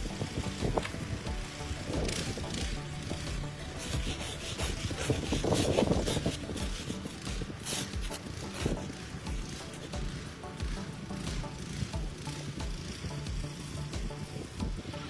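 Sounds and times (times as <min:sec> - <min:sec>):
background music: 0:00.0 - 0:15.0
snow shovel scraping: 0:00.0 - 0:15.0.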